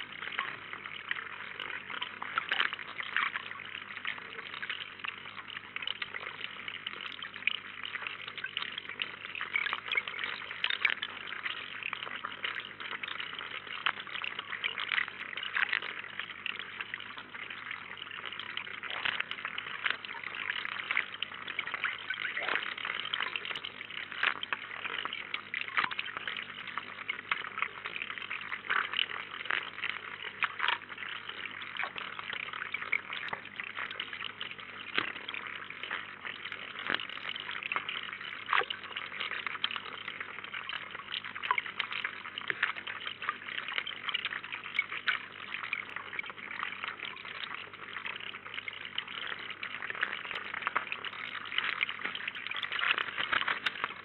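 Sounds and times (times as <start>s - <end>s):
trickle of running water: 0.0s - 54.0s.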